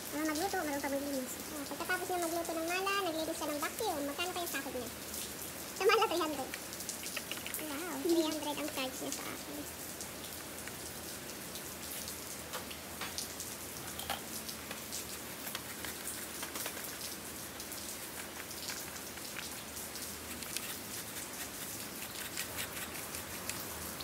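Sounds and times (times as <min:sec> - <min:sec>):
rain-like patter with ticks: 0:00.0 - 0:24.0.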